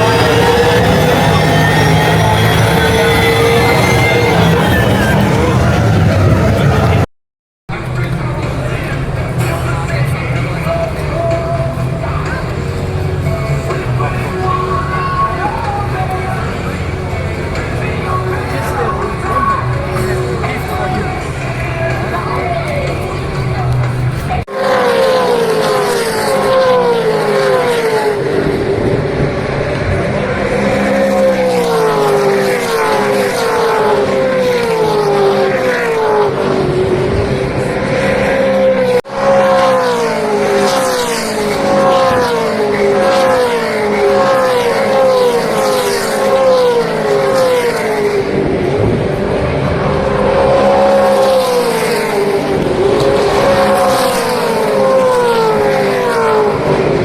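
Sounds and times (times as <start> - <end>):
race car engines passing: 0.0 - 7.1, 7.7 - 57.0.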